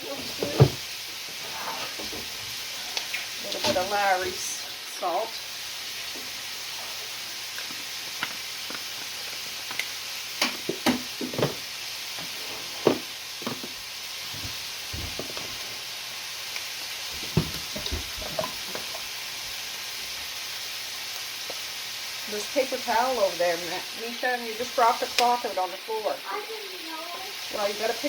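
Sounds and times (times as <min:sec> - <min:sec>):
meat sizzling in a frying pan: 0:00.0 - 0:28.0.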